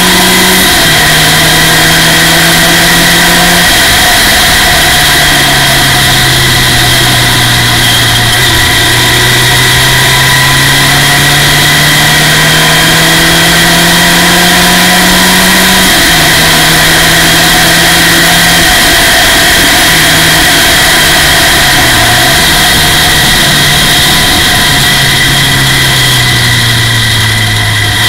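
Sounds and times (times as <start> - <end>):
race car engine revving: 0.0 - 28.0.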